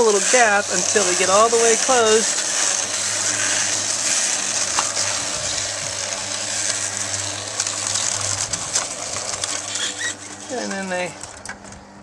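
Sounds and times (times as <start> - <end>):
roller shutter motor hum: 0.0 - 12.0.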